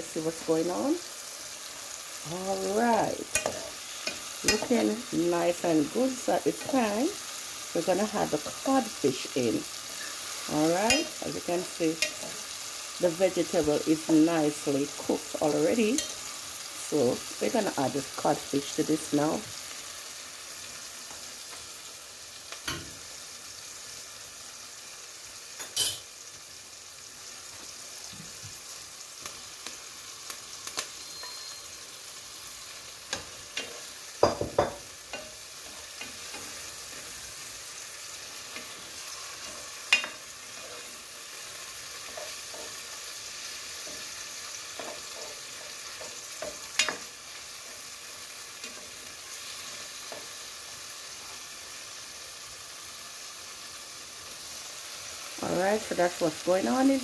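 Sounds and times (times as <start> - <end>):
food frying in oil: 0.0 - 57.0.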